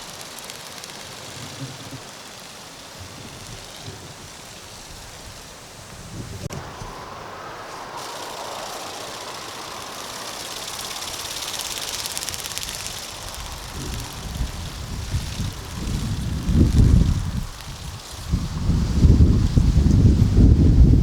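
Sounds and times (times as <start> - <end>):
toy wing motor buzzing flutter: 0.0 - 21.0
wind buffeting microphone: 2.9 - 21.0.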